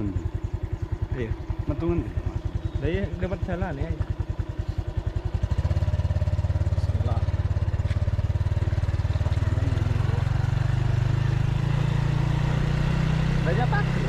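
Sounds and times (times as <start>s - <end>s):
small motorcycle engine running: 0.0s - 14.0s.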